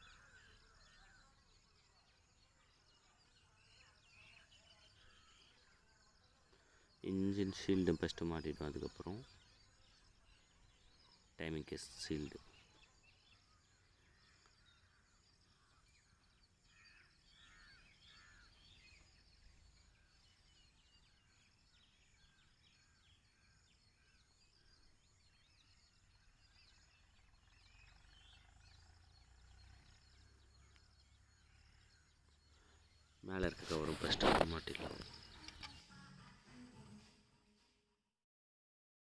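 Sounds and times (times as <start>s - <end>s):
faint birds chirping: 0.0s - 37.6s.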